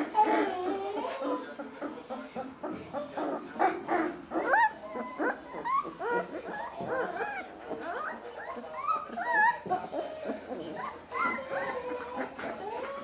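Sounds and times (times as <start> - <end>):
puppies whimpering and squeaking: 0.0 - 13.0.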